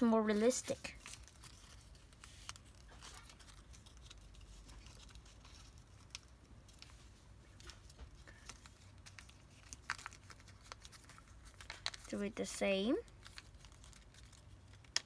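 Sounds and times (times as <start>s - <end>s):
paper being folded: 0.0s - 15.0s.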